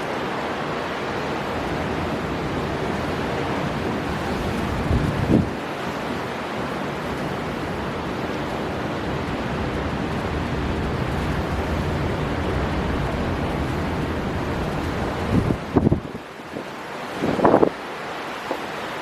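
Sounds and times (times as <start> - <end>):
storm wind: 0.0 - 19.0
waves breaking: 0.0 - 19.0.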